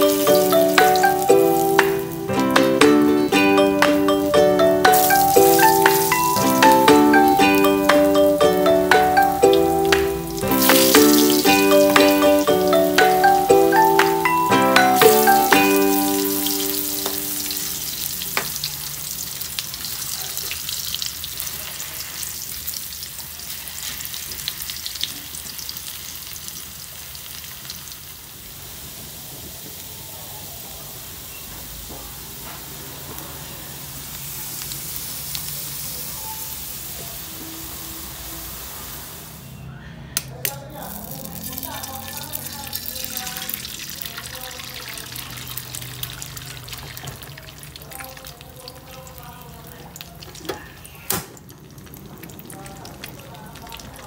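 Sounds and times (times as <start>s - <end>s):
potatoes sizzling in hot oil: 0.0s - 39.4s, 40.8s - 50.4s.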